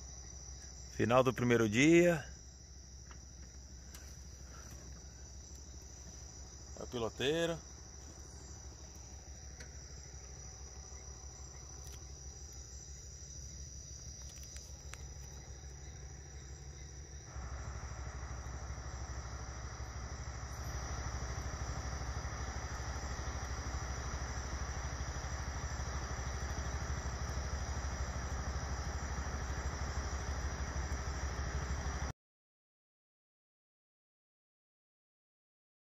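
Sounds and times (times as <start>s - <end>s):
crickets and insects droning: 0.0s - 32.1s.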